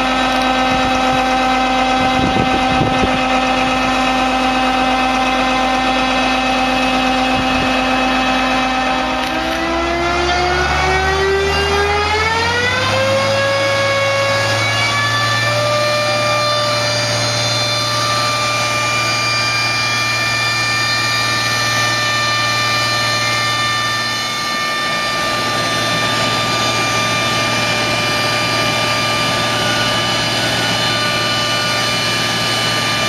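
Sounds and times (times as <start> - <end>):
ground start unit whining: 0.0 - 33.0
jet engine spooling up: 0.0 - 33.0.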